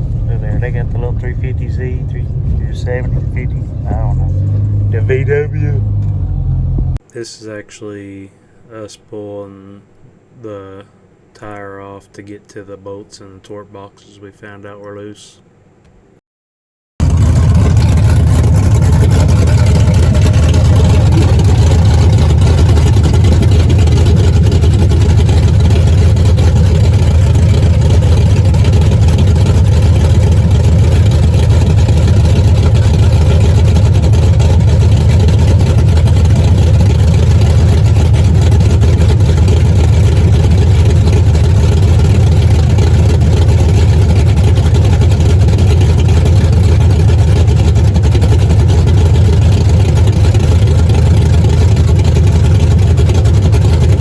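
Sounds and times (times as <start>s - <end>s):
engine running low rumble: 0.0s - 7.1s, 17.0s - 54.0s.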